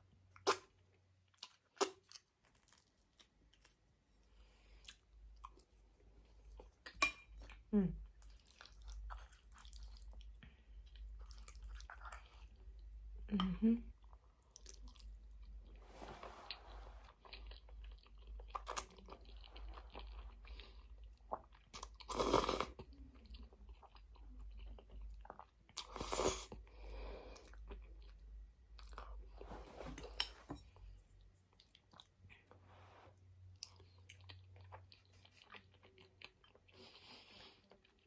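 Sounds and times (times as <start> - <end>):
person chewing spaghetti: 0.3 - 13.1, 13.9 - 15.8, 16.5 - 28.2, 28.8 - 32.6, 33.5 - 38.0.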